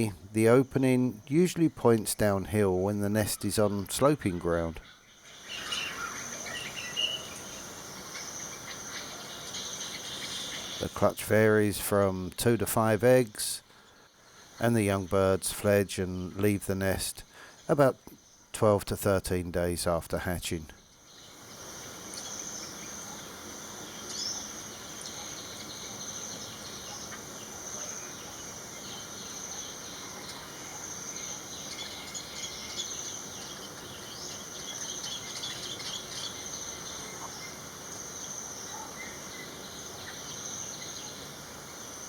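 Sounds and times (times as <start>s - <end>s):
high-pitched insect chorus trilling: 0.0s - 18.5s, 20.8s - 42.0s.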